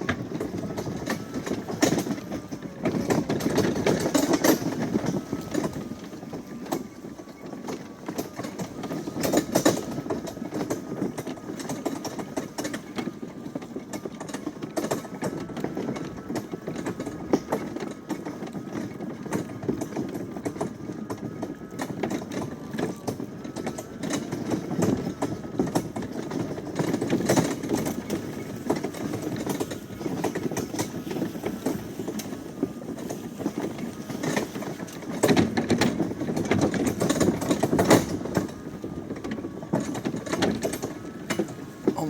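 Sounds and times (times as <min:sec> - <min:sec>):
faint motor whine: 0:00.0 - 0:42.0
mower and wagon rattling: 0:00.0 - 0:42.0.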